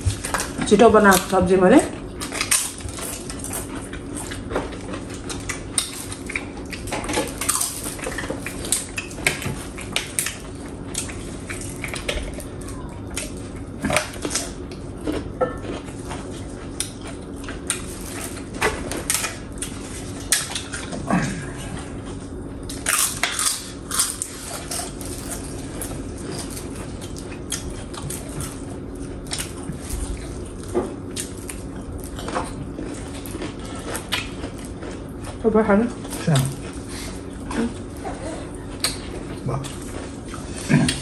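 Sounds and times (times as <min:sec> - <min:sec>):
chewing: 0:00.0 - 0:41.0
steady low hum: 0:00.0 - 0:41.0.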